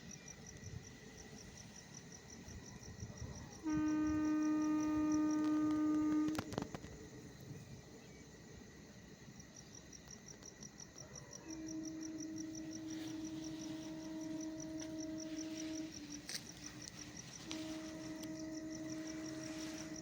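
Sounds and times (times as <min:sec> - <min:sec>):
cricket chirping: 0:00.0 - 0:20.0
steady low hum: 0:00.0 - 0:20.0.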